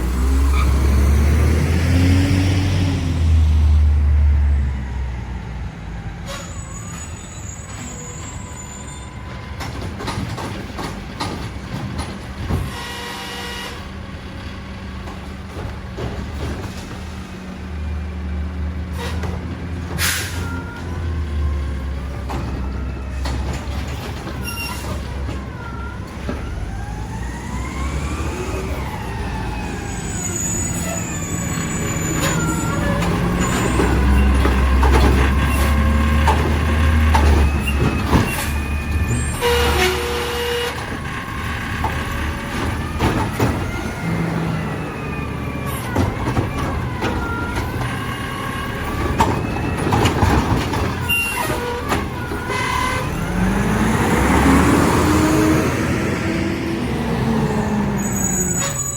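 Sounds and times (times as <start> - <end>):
truck diesel engine revving: 0.0 - 6.2, 10.3 - 58.9.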